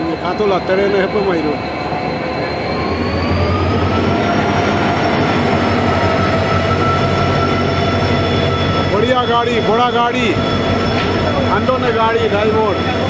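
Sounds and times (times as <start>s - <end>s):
locomotive engine hum and whine: 0.0s - 13.0s.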